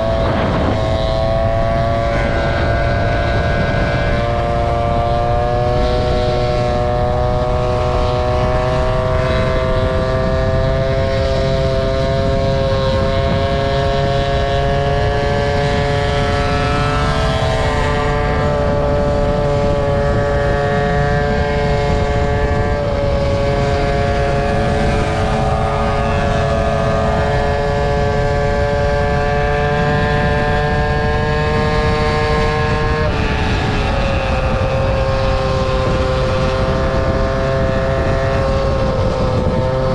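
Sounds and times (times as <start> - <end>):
scooter engine droning: 0.0 - 39.9.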